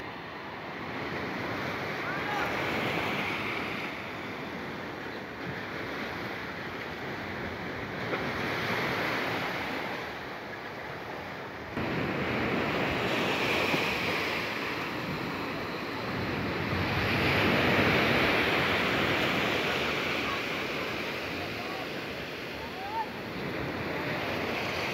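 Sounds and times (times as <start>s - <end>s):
waves surging and splashing: 0.0s - 24.9s.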